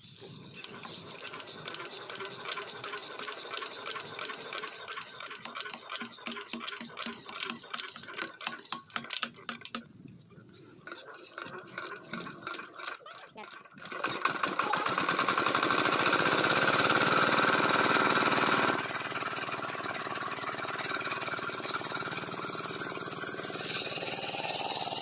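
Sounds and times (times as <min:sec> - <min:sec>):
engine crank whirring and clicking: 0:00.0 - 0:09.9, 0:10.8 - 0:25.0.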